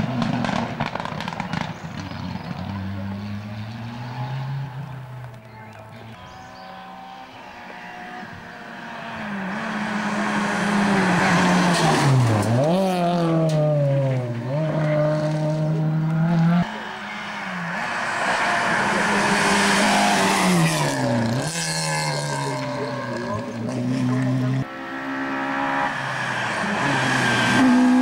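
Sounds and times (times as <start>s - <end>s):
rally car engine passing: 0.0s - 28.0s
second rally car approaching: 0.0s - 28.0s.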